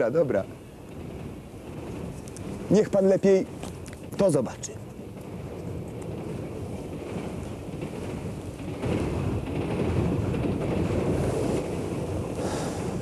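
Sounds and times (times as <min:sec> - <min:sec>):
train rumbling in motion: 0:00.0 - 0:13.0.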